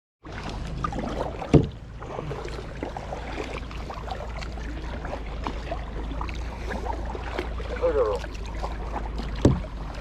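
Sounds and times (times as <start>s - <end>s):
water lapping and splashing: 0.2s - 10.0s.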